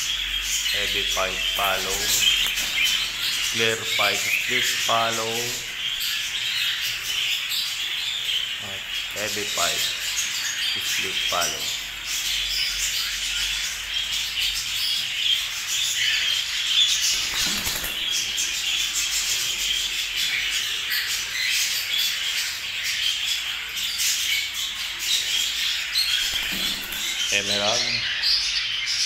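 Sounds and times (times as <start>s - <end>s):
cockatiels chirping and chattering: 0.0s - 29.0s.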